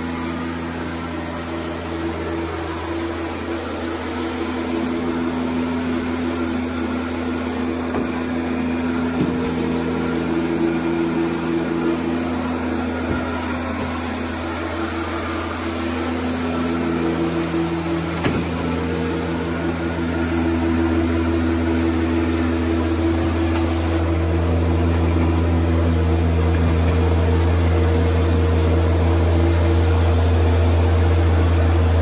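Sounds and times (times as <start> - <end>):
carpet cleaning machine humming: 0.0 - 32.0.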